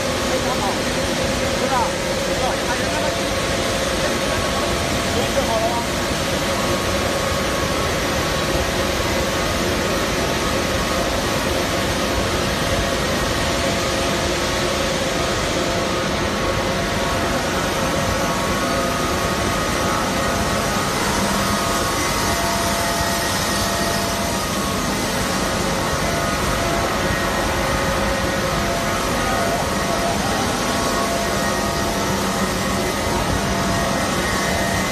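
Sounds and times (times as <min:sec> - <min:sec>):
faint humming tones: 0:00.0 - 0:34.9.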